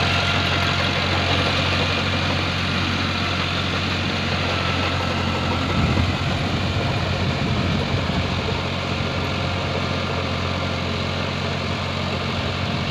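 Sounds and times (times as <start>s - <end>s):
tractor diesel engine rumbling: 0.0s - 12.9s.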